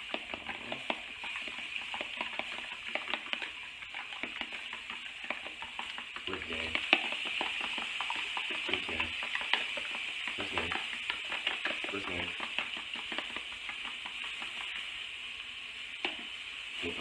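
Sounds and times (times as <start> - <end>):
fork beating eggs: 0.0 - 15.2, 16.0 - 17.0
sausages sizzling in pan: 0.0 - 17.0.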